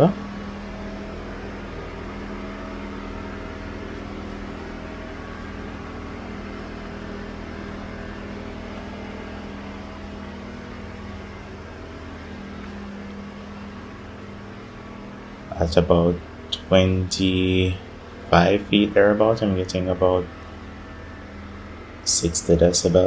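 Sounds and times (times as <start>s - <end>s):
generator engine humming: 0.0s - 23.0s.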